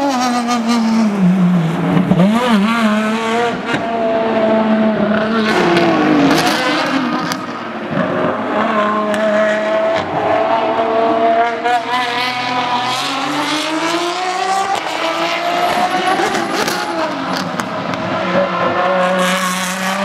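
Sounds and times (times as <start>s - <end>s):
race car engines braking: 0.0s - 20.0s.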